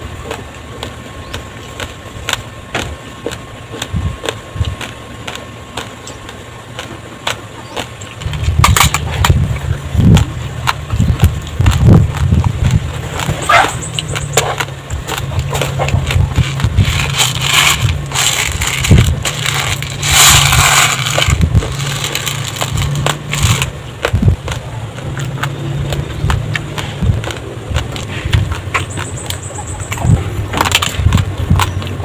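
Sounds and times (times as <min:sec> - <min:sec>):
low rumble: 0:00.0 - 0:32.0
rice grains crunched by teeth: 0:00.2 - 0:32.0.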